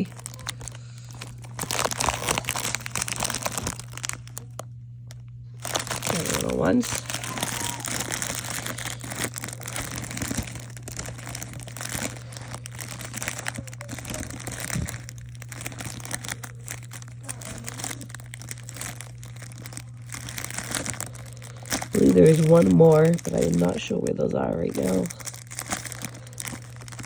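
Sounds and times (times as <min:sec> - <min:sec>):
plastic bags crinkling: 0:00.0 - 0:27.0
steady low hum: 0:00.0 - 0:27.0.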